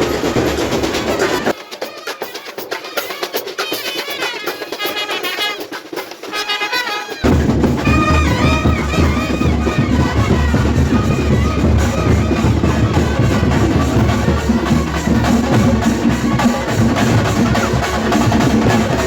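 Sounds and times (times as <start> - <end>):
brass band music: 0.0 - 19.0
drum strokes: 0.0 - 19.0
trumpet melody: 0.0 - 19.0.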